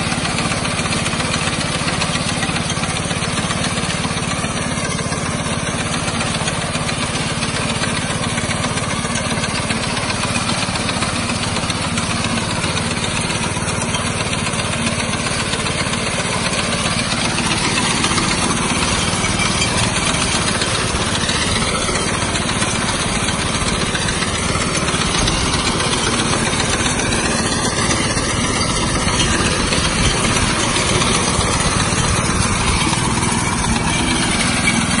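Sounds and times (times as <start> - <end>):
cutter bar mowing rice: 0.0 - 35.0
petrol engine running under load: 0.0 - 35.0.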